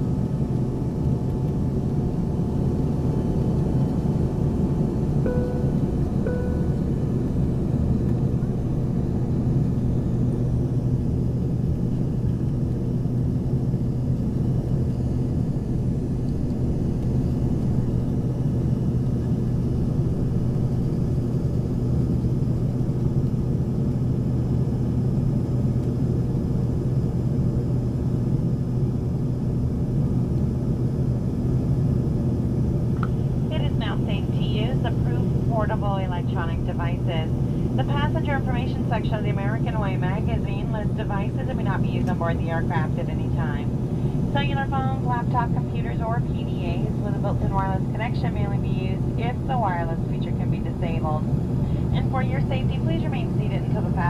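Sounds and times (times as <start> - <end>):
jet cabin engine drone: 0.0 - 54.0.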